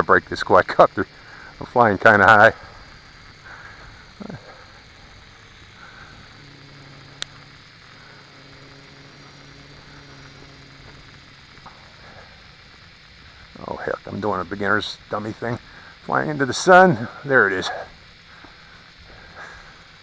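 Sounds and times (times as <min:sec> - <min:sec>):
faint drone motors humming: 0:00.0 - 0:20.0.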